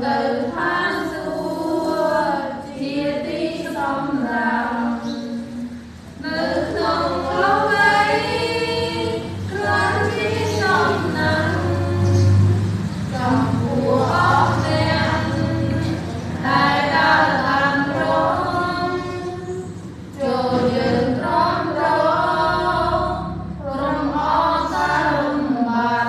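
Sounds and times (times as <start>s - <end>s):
women singing a hymn: 0.0s - 26.0s.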